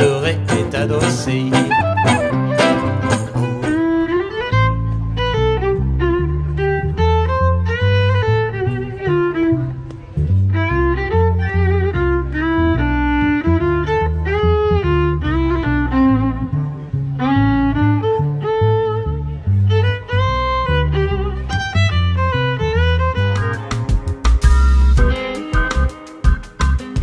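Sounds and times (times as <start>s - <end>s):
double bass plucking: 0.0s - 27.0s
violin swing melody: 0.0s - 27.0s.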